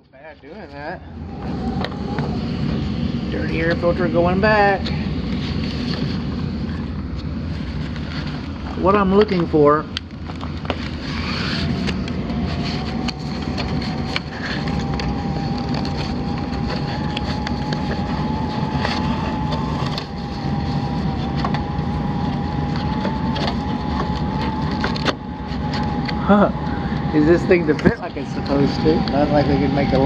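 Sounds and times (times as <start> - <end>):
air handler blower humming: 0.0 - 30.0.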